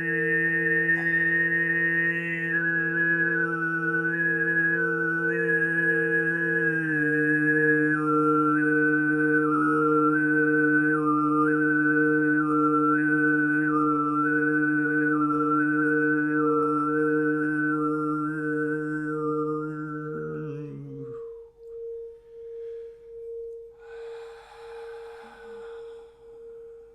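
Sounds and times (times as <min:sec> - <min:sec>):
overtone throat singing: 0:00.0 - 0:26.9
pulsing ringing tone: 0:00.0 - 0:26.9.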